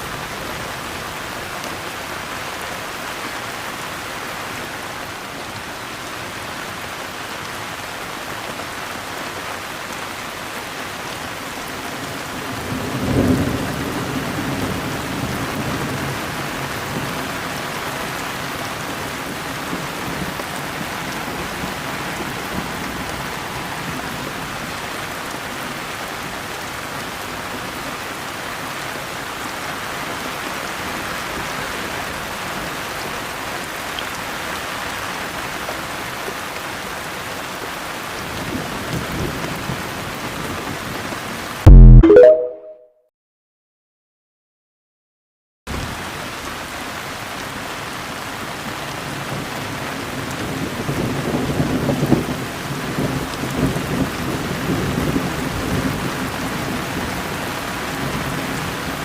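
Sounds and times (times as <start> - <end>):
steady rain falling: 0.0 - 41.6, 45.7 - 59.0.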